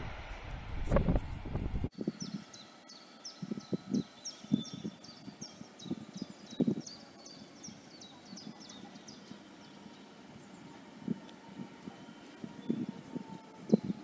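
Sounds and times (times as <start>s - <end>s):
wind buffeting microphone: 0.0s - 14.0s
small bird chirping: 2.0s - 14.0s.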